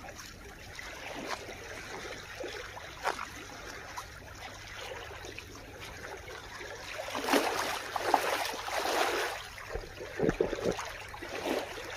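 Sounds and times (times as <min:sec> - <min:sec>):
short water splashes: 0:00.0 - 0:11.9
water lapping among rocks: 0:00.0 - 0:11.9.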